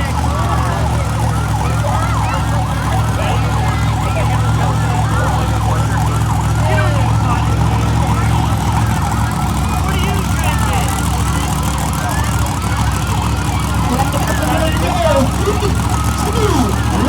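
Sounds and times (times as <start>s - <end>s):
truck engine idling loudly: 0.0s - 17.0s.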